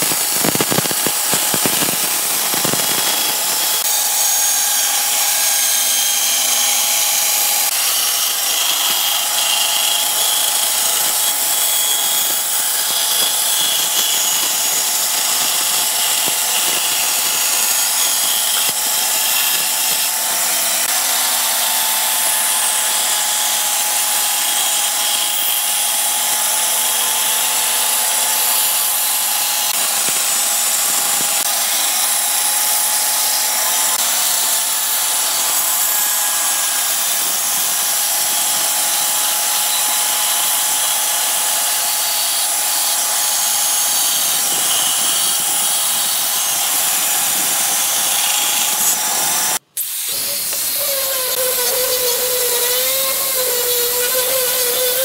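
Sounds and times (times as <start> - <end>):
angle grinder sanding wood: 0.0 - 55.0
band saw cutting wood: 0.0 - 55.0.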